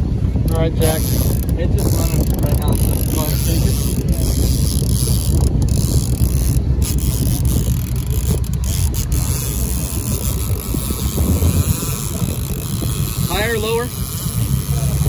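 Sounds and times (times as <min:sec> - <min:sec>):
boat motor rumbling: 0:00.0 - 0:15.0
wind buffeting microphone: 0:00.0 - 0:15.0.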